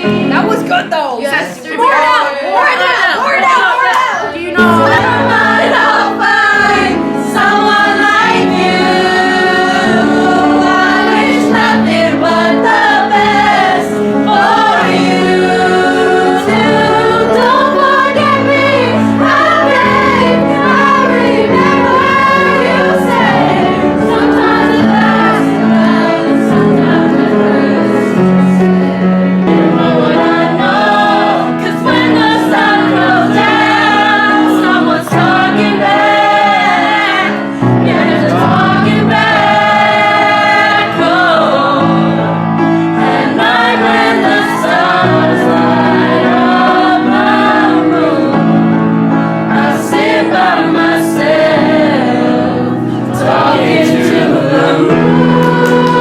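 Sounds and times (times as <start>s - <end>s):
group of voices singing: 0.0s - 56.0s
instrumental accompaniment: 3.9s - 56.0s.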